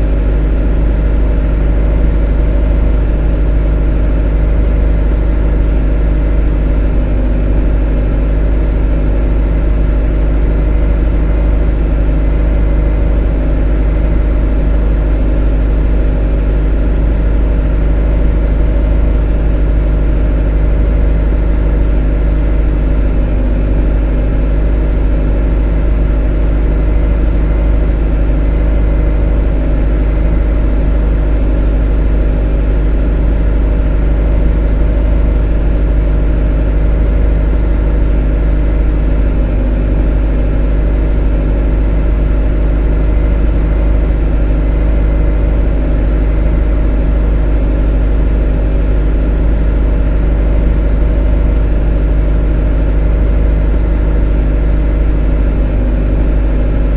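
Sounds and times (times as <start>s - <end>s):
motor droning: 0.0s - 56.9s.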